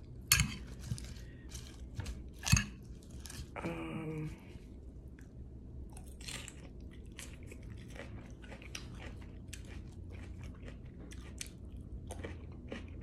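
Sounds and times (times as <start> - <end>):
person chewing salad: 0.0 - 3.6, 4.5 - 13.0
low steady hum: 0.0 - 13.0.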